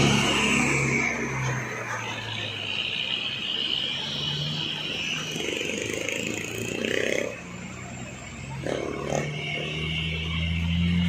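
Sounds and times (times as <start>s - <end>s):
truck engines running: 0.0s - 11.0s.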